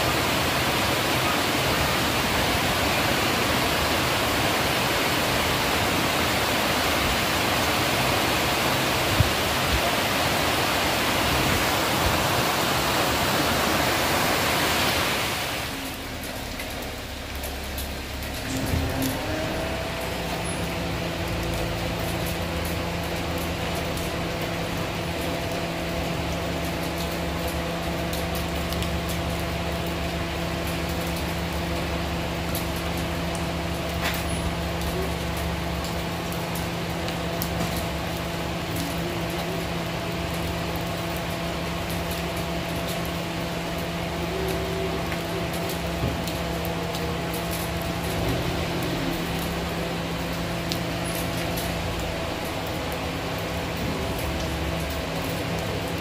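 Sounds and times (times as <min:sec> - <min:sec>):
heavy rain on paving and leaves: 0:00.0 - 0:56.0.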